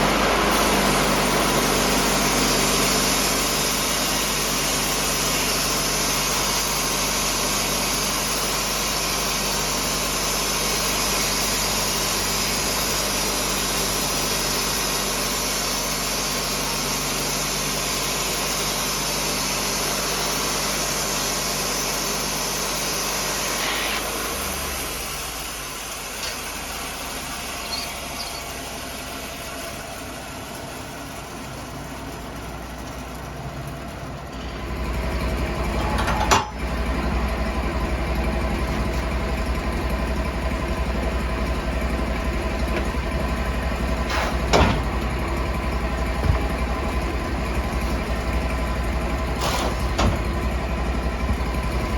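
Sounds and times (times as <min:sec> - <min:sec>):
sawmill engine running: 0:00.0 - 0:51.9.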